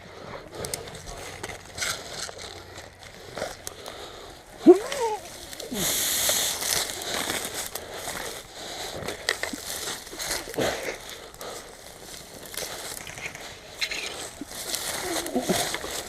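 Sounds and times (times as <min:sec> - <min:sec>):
rustling and crunching movement: 0:00.0 - 0:16.0.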